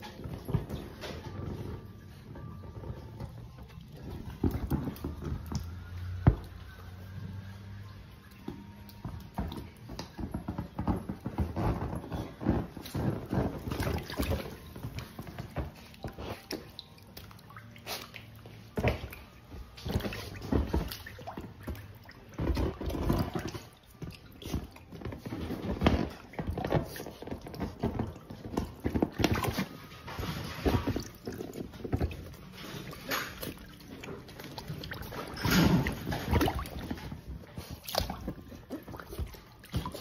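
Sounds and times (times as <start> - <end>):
water sloshing and splashing: 0.0 - 40.0.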